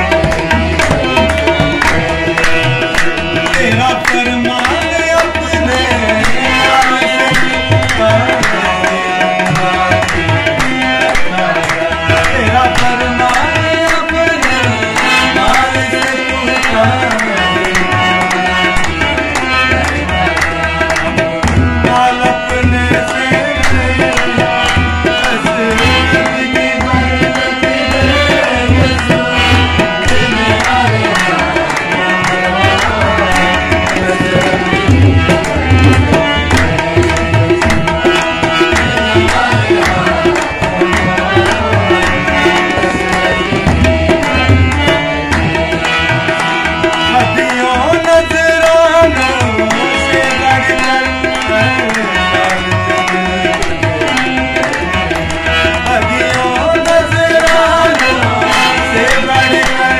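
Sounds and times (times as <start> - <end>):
harmonium holding chords: 0.0 - 59.9
tabla drumming: 0.0 - 59.9.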